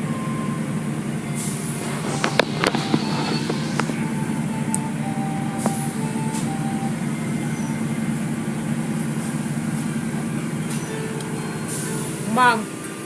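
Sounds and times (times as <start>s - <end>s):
car wash machinery drone: 0.0s - 13.0s.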